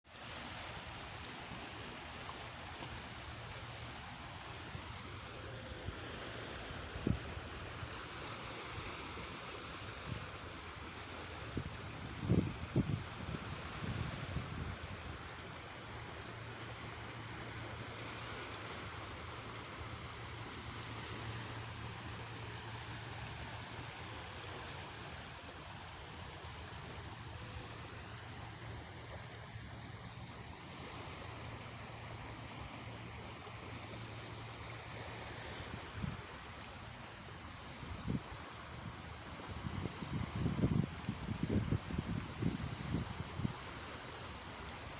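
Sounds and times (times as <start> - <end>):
sea water washing: 0.0 - 44.9.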